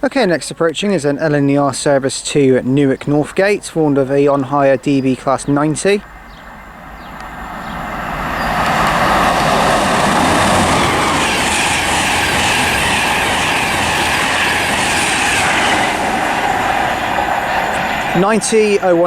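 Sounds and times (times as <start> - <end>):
train roaring past: 0.0 - 19.0.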